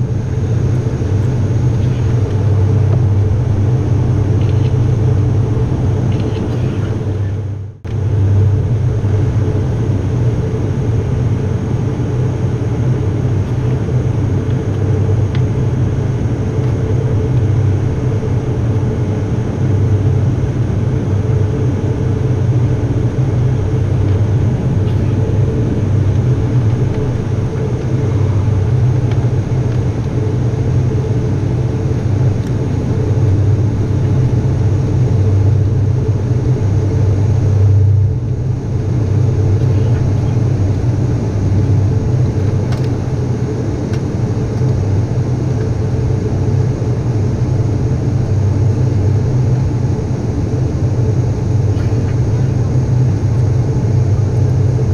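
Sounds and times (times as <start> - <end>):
turboprop engines droning: 0.0 - 54.9.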